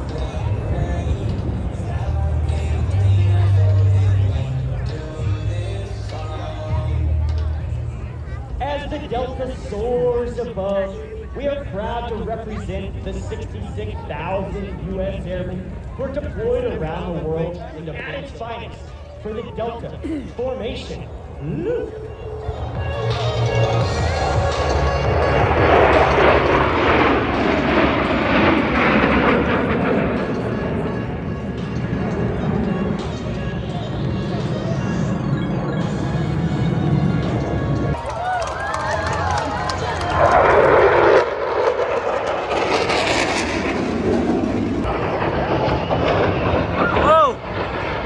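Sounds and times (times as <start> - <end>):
fighter jets passing overhead: 7.5 - 48.0.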